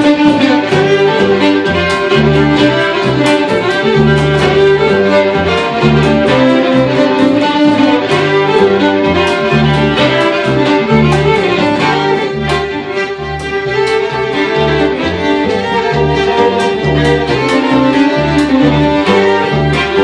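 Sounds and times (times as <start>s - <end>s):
fiddles playing folk tune: 0.0s - 20.0s
plucked double bass: 0.0s - 20.0s.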